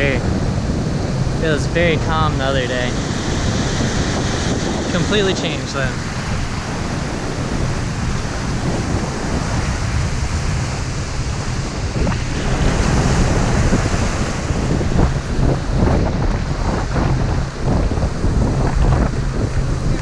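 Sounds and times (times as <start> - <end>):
ocean surf breaking: 0.0 - 20.0
wind rumbling on microphone: 0.0 - 20.0.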